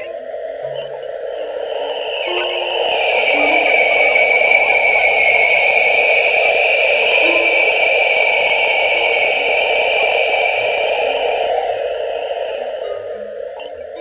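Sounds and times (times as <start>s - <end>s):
hiss-like synthesized drone: 0.0s - 14.0s.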